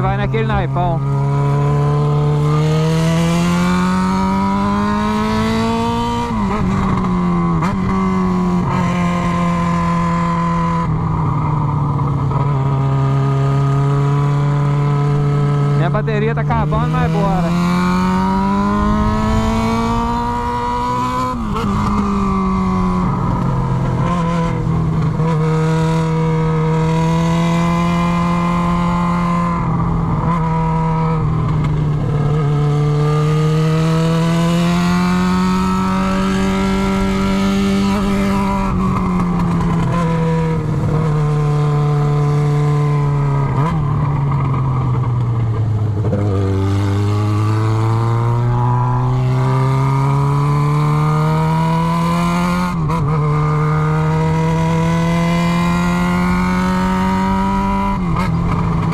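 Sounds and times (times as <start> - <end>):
loud raspy motorcycle engine: 0.0 - 58.9.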